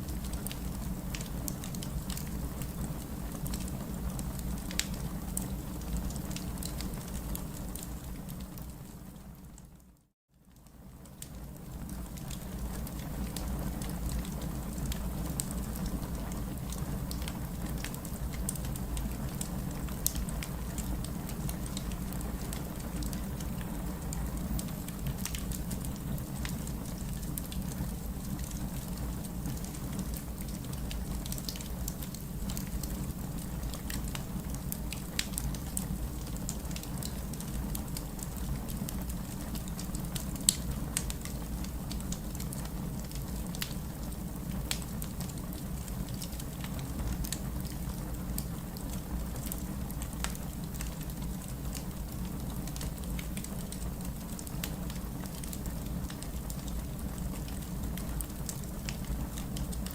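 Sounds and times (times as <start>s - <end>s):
low rumble of burning wood: 0.0s - 59.9s
fire popping and snapping: 0.1s - 9.0s, 11.0s - 59.9s.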